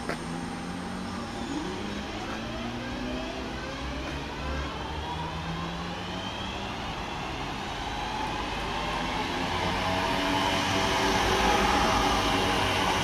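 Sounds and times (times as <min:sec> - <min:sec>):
electric train traction whine: 0:00.0 - 0:13.0.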